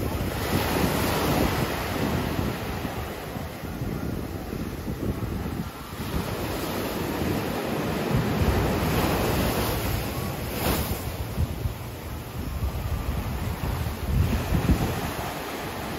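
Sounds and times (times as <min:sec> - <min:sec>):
small waves breaking on beach: 0:00.0 - 0:15.9
wind buffeting microphone: 0:00.0 - 0:15.9.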